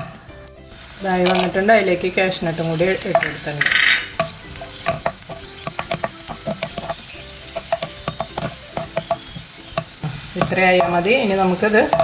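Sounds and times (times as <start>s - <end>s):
nuts sizzling in oil: 0.0s - 12.0s
utensil clicking against pan: 1.2s - 1.6s, 2.6s - 12.0s.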